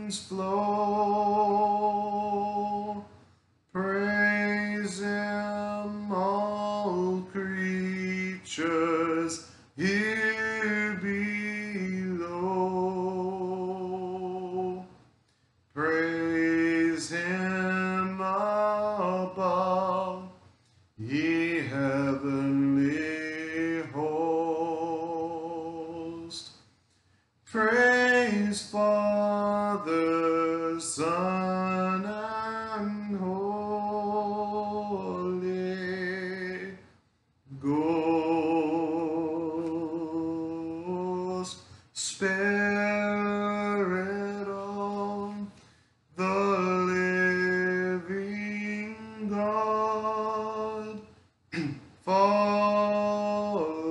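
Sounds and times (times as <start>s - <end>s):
man singing a hymn: 0.0s - 15.1s, 15.7s - 26.7s, 27.4s - 53.9s.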